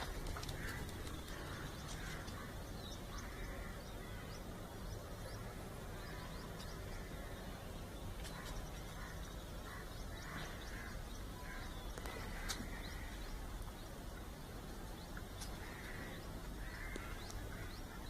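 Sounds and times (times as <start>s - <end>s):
birds calling: 0.0s - 18.0s.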